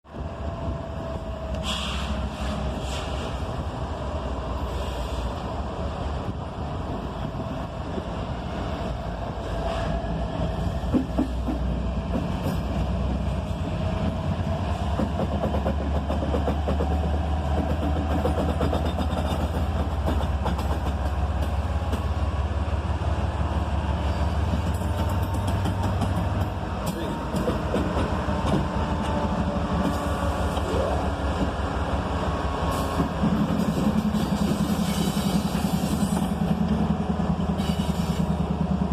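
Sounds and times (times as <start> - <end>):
wheels rumbling and ticking on rail: 0.0 - 38.9
locomotive engine drone: 0.1 - 38.9.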